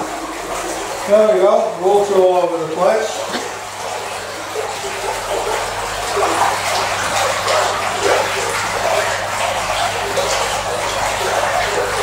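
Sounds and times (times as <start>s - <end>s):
water pouring from hose: 0.0s - 12.0s.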